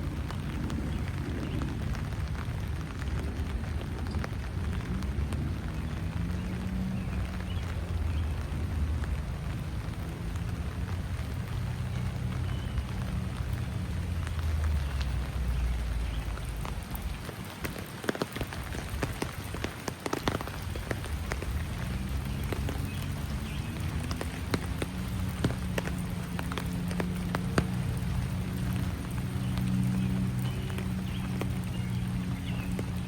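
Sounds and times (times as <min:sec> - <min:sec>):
rain falling: 0:00.0 - 0:33.0
raindrops ticking sharply: 0:00.0 - 0:33.0.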